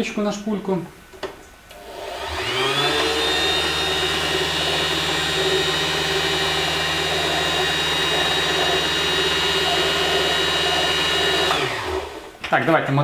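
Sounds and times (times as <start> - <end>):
sewing machine motor whining: 1.8 - 12.4.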